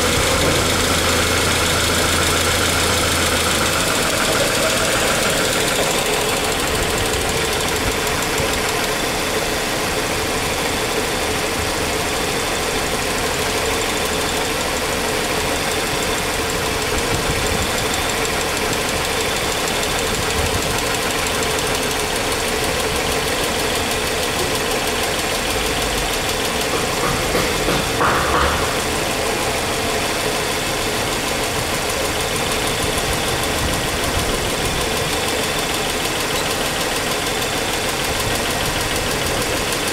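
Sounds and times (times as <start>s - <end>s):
engine idling with ticking: 0.0s - 39.9s.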